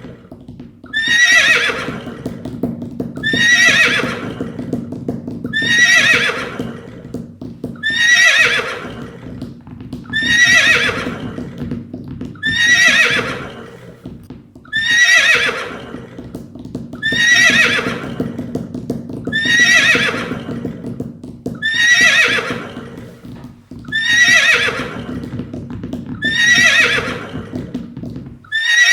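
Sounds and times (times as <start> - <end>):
horse whinnying: 0.0 - 2.6, 3.2 - 4.8, 5.4 - 11.7, 12.3 - 16.4, 17.0 - 18.6, 19.2 - 27.8, 28.4 - 28.9.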